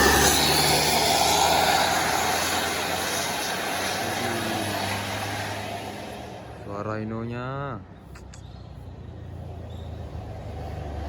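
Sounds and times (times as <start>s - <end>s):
bus passing by: 0.0s - 7.1s, 7.8s - 11.0s.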